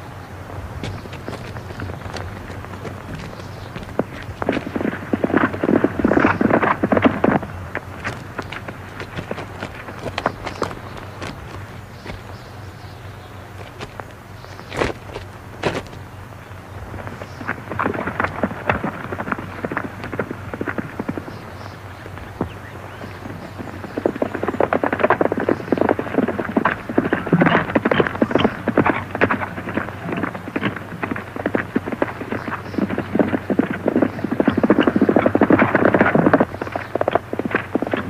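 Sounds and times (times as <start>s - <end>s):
horse hoofbeats galloping: 0.0s - 38.0s.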